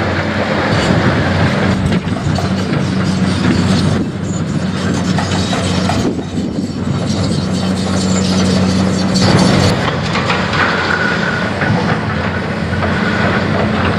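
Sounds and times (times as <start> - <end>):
excavator engine drone: 0.0 - 13.9
clanking and rattling: 0.4 - 13.9.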